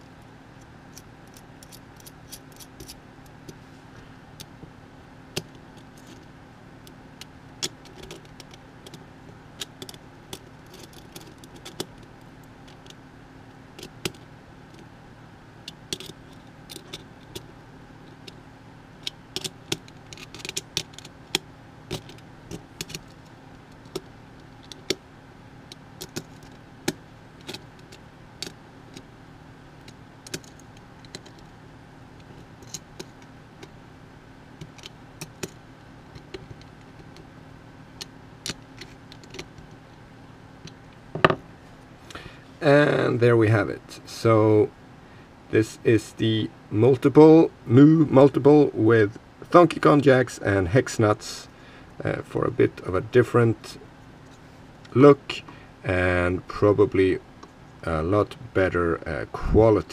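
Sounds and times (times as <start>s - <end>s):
low background hum: 0.0s - 59.9s.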